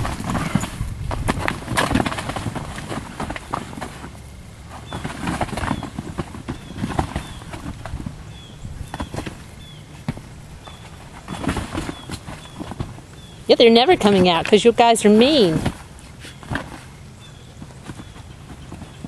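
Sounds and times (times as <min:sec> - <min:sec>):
running paws thudding on grass: 0:00.0 - 0:19.0.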